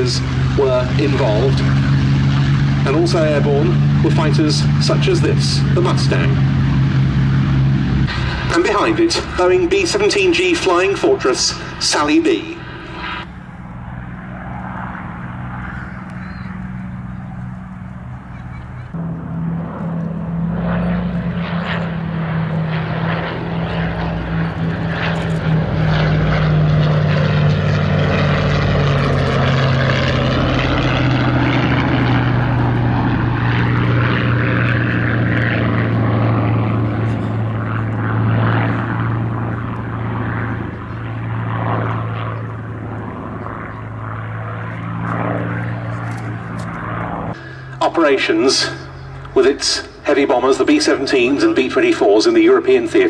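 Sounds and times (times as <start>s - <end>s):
propeller planes droning past: 0.0s - 53.0s.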